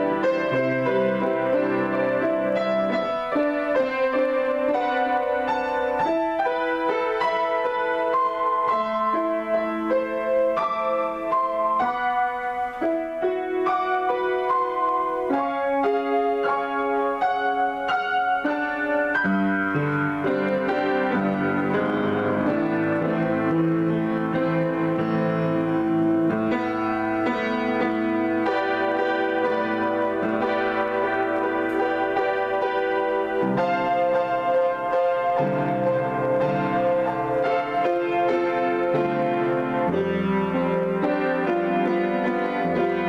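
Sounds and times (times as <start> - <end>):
deep piano bass notes: 0.0 - 43.0
grand piano chords: 0.0 - 43.0.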